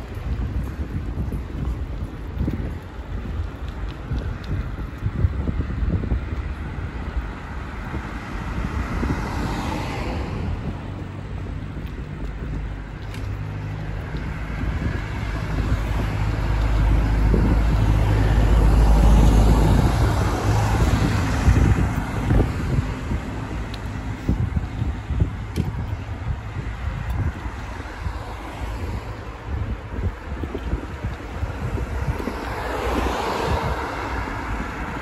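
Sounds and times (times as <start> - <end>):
low engine hum: 0.0 - 35.0
vehicles passing: 0.0 - 35.0.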